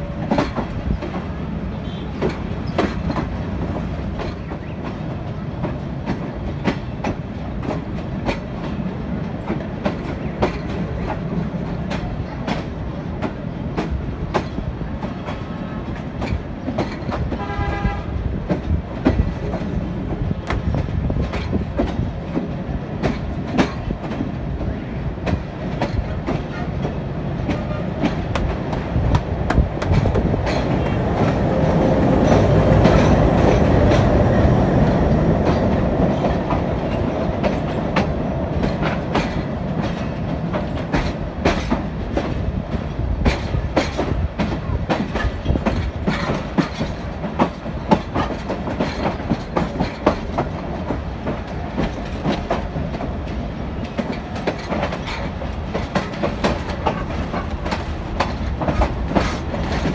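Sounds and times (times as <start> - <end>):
train rumble: 0.0 - 59.9
train wheels clattering: 0.0 - 59.9.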